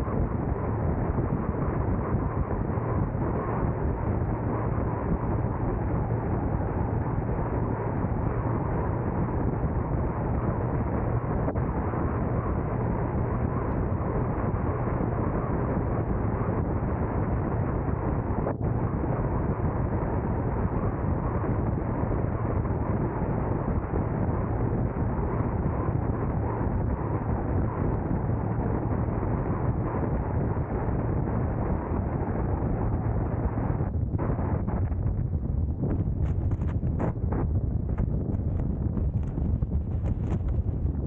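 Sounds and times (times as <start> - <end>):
car driving rumble: 0.0 - 41.0
low steady hum: 0.0 - 41.0.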